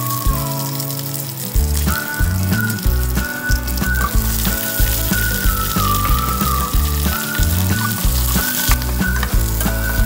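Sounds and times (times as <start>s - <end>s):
instrumental music: 0.0s - 10.0s
onions sizzling in oil: 0.0s - 10.0s.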